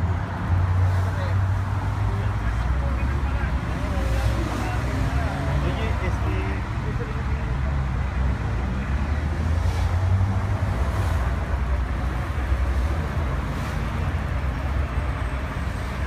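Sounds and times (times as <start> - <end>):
cars passing: 0.0 - 16.0
low road rumble: 0.0 - 16.0.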